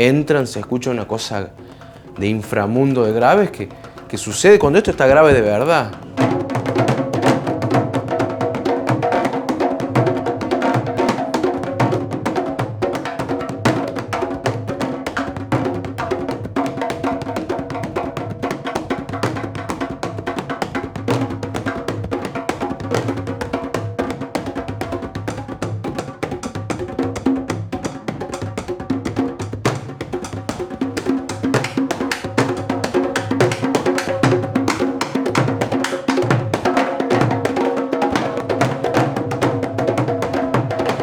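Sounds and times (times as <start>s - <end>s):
hand drums playing rhythm: 0.0s - 41.0s.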